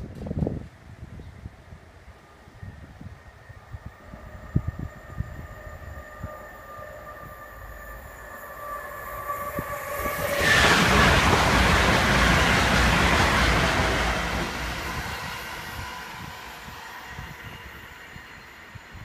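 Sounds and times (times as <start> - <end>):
passenger train passing at speed: 0.0 - 19.0.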